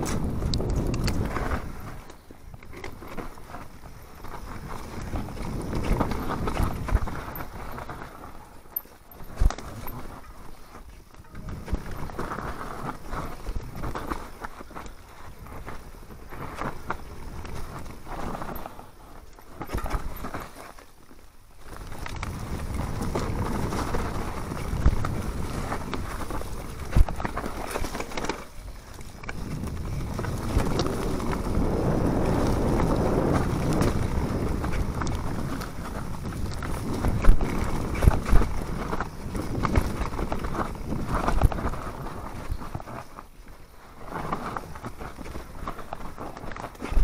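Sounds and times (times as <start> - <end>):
bike rattling over bumps: 0.0 - 47.0
bike tyres rolling over dirt trail: 0.0 - 47.0.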